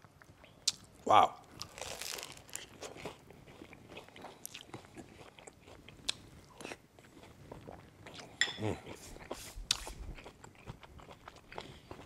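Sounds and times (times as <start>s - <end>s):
person chewing soaked bread: 0.0s - 12.0s.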